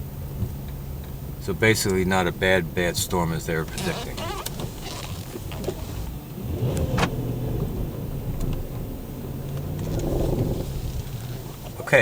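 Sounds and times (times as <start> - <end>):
car engine running: 0.0 - 12.0
road noise inside car: 0.0 - 12.0.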